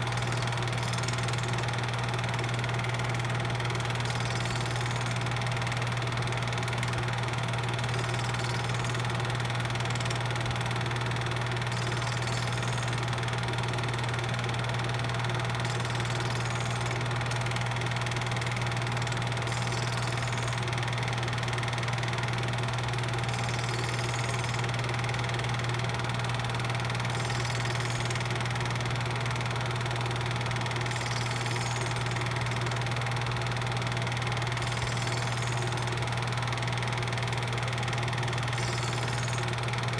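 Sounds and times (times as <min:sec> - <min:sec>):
film projector humming and whirring: 0:00.0 - 0:39.9.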